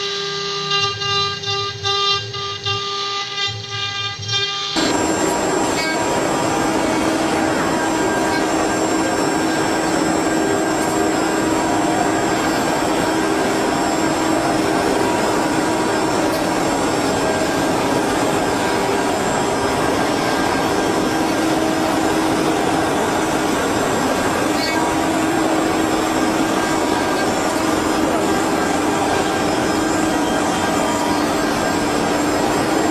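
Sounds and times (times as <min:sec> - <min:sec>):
wood carving router whine: 0:00.0 - 0:32.9.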